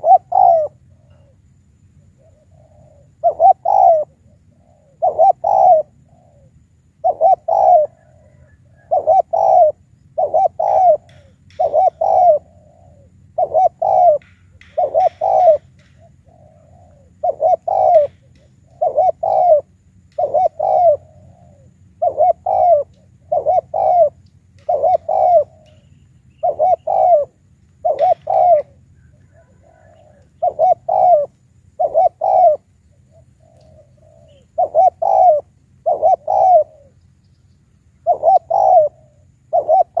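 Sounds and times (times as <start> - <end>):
dove cooing: 0.0 - 37.1, 38.0 - 40.0.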